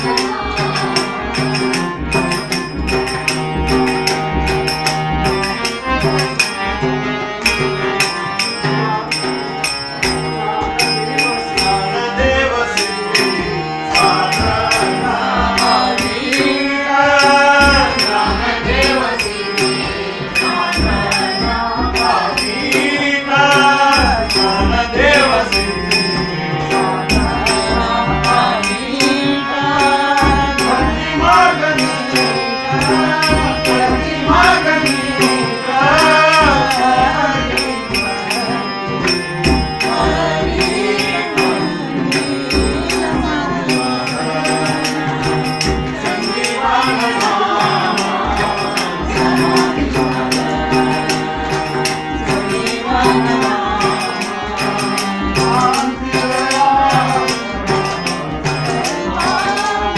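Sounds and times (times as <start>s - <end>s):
group singing in unison: 0.0s - 59.9s
harmonium held notes: 0.0s - 59.9s
tabla: 0.0s - 59.9s.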